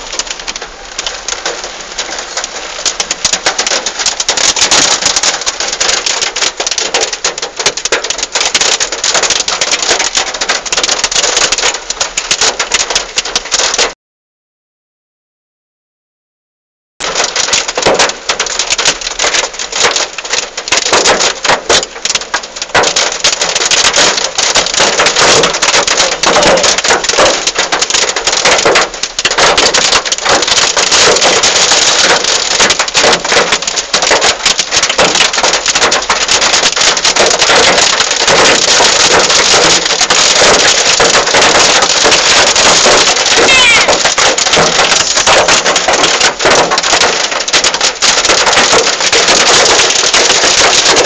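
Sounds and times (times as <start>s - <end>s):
heavy rain falling: 0.0s - 14.0s, 17.0s - 51.0s.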